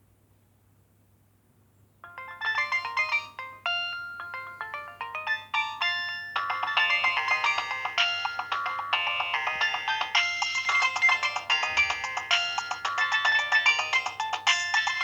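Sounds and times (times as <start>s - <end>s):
polyphonic phone ringtone: 2.0s - 15.0s.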